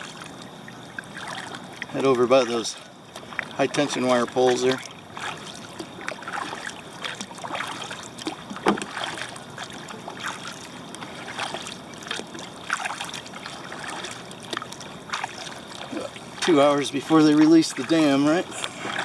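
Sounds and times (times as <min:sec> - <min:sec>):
paddle splashing in water: 0:00.0 - 0:19.0
water dripping: 0:00.0 - 0:19.0.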